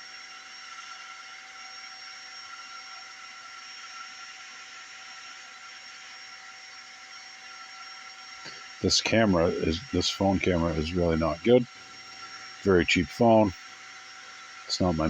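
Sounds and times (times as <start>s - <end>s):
cooling fans whirring: 0.0s - 15.0s.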